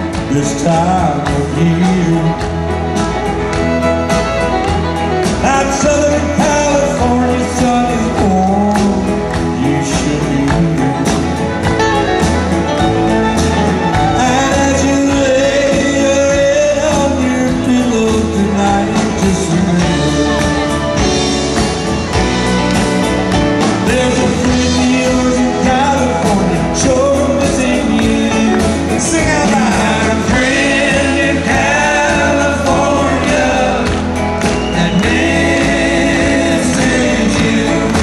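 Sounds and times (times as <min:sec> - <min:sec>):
acoustic guitar: 0:00.0 - 0:38.0
drums: 0:00.0 - 0:38.0
electric guitar: 0:00.0 - 0:38.0.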